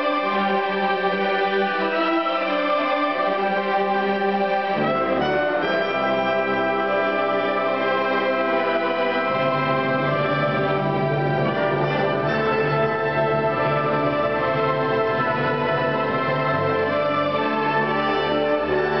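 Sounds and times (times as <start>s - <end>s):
orchestra playing sustained chords: 0.0s - 19.0s.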